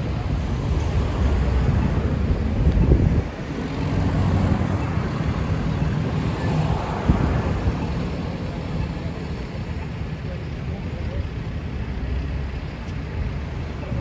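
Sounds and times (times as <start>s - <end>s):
traffic passing: 0.0s - 14.0s.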